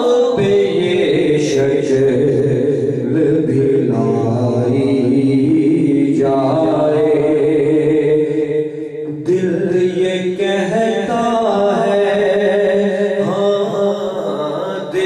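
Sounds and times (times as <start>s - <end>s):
man singing ornamented notes: 0.0s - 15.0s.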